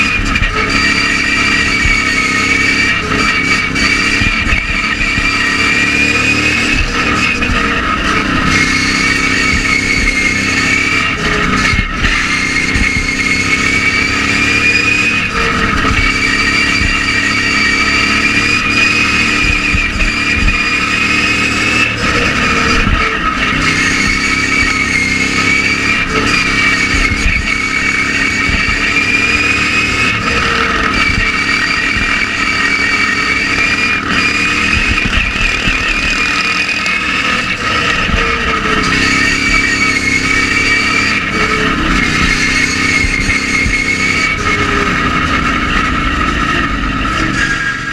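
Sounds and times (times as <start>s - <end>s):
lawn mower engine revving: 0.0s - 47.9s.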